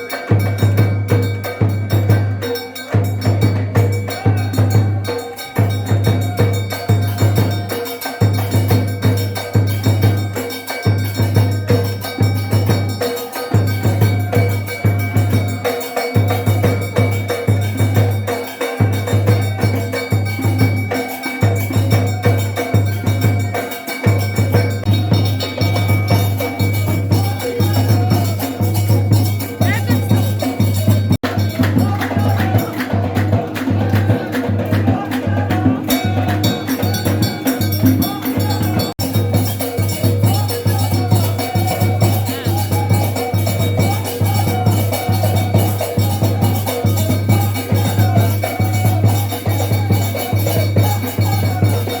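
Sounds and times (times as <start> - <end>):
rhythmic drumming music: 0.0 - 52.0.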